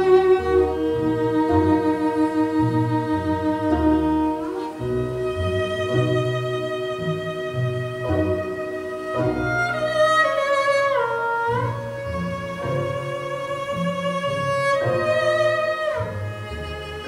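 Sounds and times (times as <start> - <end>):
fiddle playing slow melody: 0.0 - 17.0
string orchestra low bowed notes: 0.0 - 17.0.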